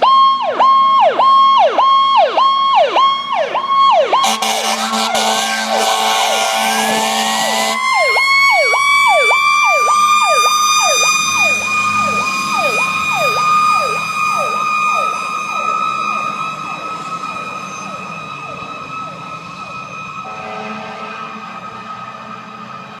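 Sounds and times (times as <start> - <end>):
electronic siren yelp: 0.0 - 23.0
wailing siren: 0.0 - 23.0
fire engine horn: 4.1 - 23.0.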